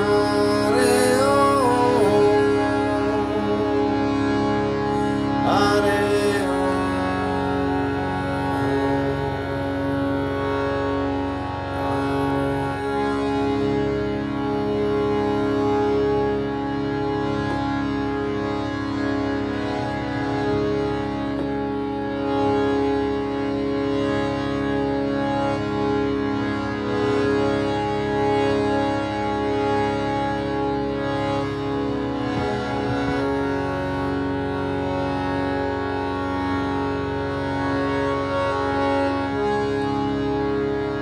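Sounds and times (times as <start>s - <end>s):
harmonium playing held chords: 0.0s - 41.0s.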